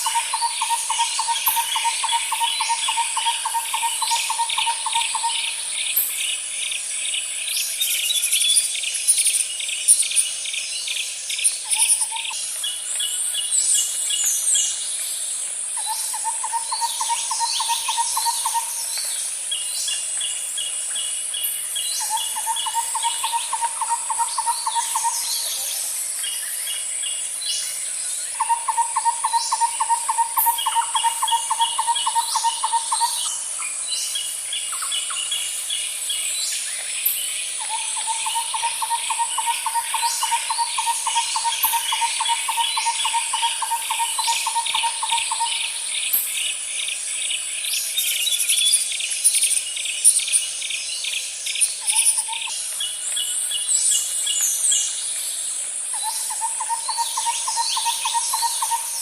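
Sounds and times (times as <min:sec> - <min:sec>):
bird chirps: 0:00.0 - 0:14.8, 0:15.8 - 0:55.2, 0:55.9 - 0:59.0
high insect drone: 0:00.0 - 0:59.0.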